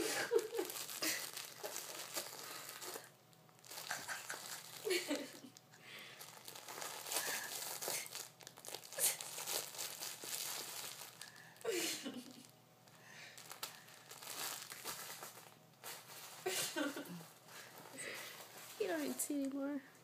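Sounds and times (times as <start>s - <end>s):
crinkly material rustling: 0.0s - 12.5s, 13.3s - 20.0s.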